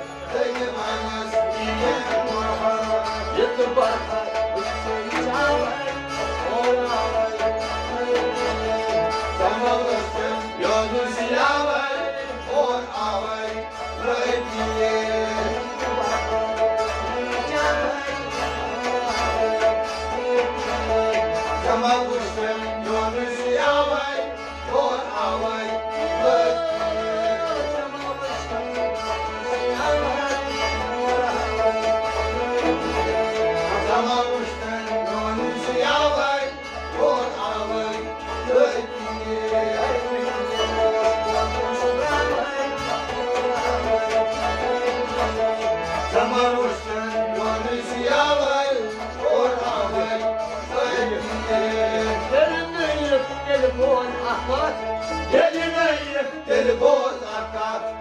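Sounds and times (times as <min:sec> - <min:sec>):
bowed sarangi: 0:00.0 - 0:58.0
harmonium: 0:00.0 - 0:58.0.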